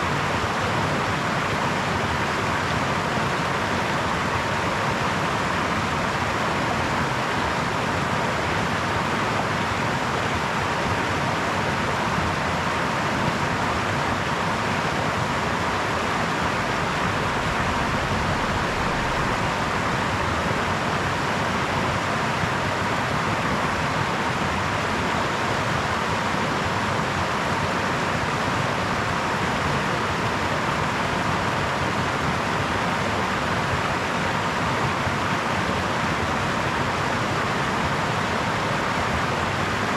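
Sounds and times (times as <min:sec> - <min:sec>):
brook running: 0:00.0 - 0:39.9.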